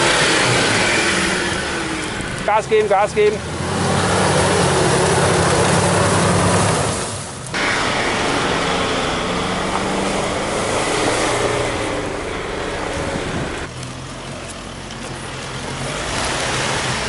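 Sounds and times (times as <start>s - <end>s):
off-road engines under load: 0.0s - 17.0s.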